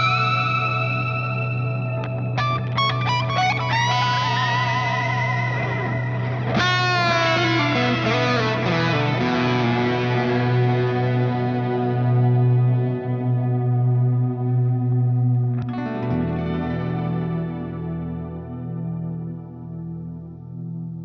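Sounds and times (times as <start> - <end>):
electric guitar with delay: 0.0 - 21.0.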